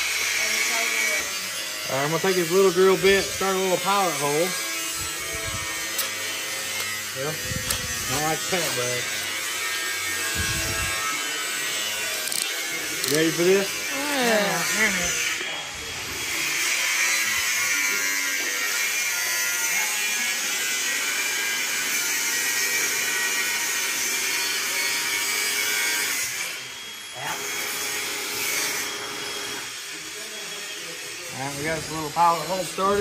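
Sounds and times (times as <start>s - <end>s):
power drill drilling into metal: 0.0s - 17.6s, 20.4s - 33.0s.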